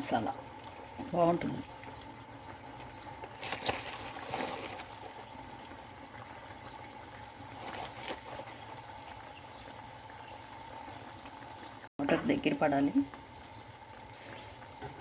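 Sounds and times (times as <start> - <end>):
curry bubbling: 0.0 - 15.0.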